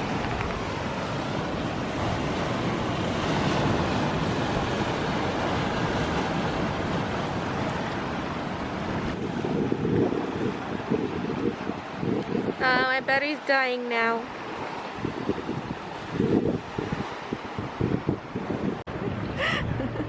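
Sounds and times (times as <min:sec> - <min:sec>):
ocean surf washing ashore: 0:00.0 - 0:20.0
wind buffeting microphone: 0:00.0 - 0:20.0.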